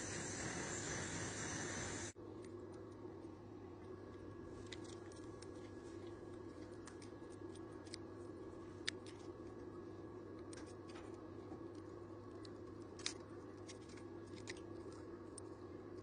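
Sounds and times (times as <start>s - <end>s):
bench equipment hum: 0.0s - 16.0s.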